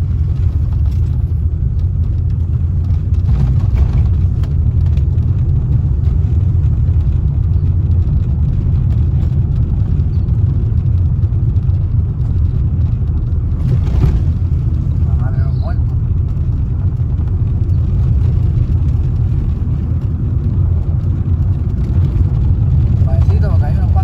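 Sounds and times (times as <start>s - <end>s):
car engine and tyre rumble: 0.0s - 24.0s
car jolting over bumps: 0.0s - 24.0s.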